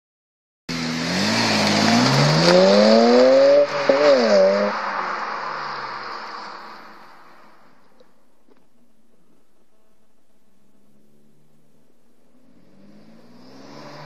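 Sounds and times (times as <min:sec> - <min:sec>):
car engine accelerating: 0:00.7 - 0:14.0.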